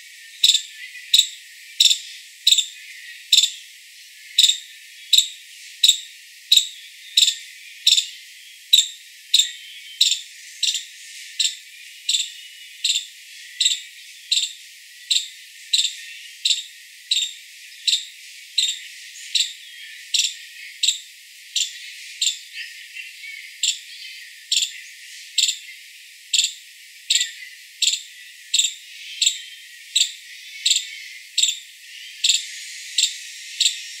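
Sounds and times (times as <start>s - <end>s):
squirrel chirping: 0.4s - 3.6s, 4.4s - 24.8s, 25.4s - 25.7s, 26.4s - 34.0s.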